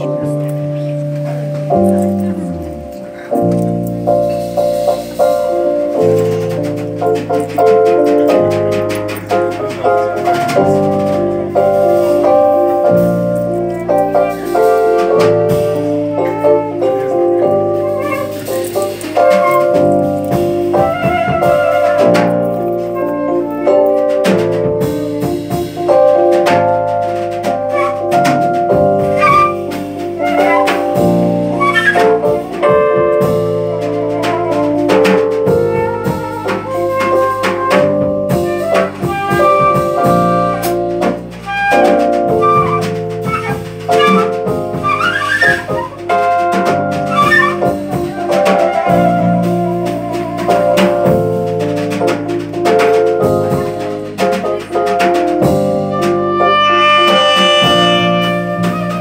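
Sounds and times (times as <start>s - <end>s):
drum kit: 0.0s - 59.0s
electric bass guitar: 0.0s - 59.0s
flute melody: 0.0s - 59.0s
keyboard: 0.0s - 59.0s.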